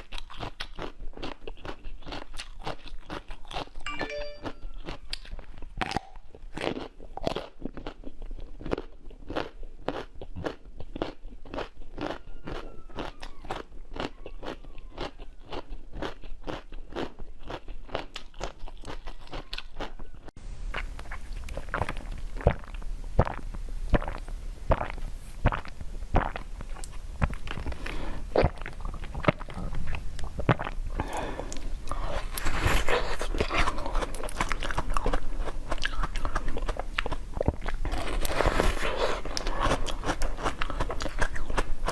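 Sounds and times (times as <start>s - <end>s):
crunching and chewing frozen treats: 0.0s - 41.9s.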